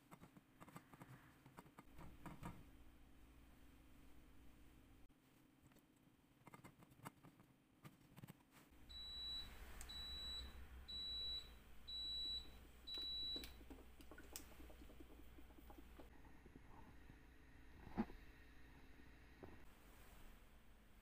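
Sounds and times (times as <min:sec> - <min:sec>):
low steady hum: 0:01.9 - 0:06.6, 0:07.9 - 0:21.0.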